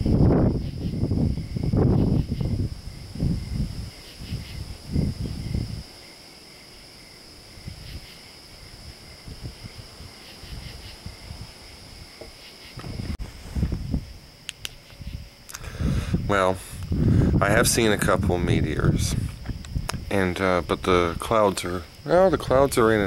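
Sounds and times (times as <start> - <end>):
wind rumbling on microphone: 0.0 - 6.1, 6.9 - 23.0
crickets chirping: 0.0 - 23.0.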